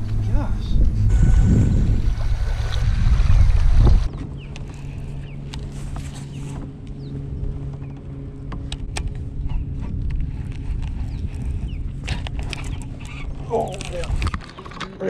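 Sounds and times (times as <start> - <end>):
low hum: 0.0 - 15.0
wind rumbling on microphone: 0.0 - 15.0.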